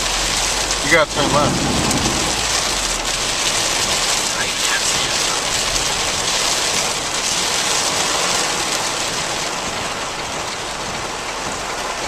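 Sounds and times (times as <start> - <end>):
heavy rain on car: 0.0 - 12.0.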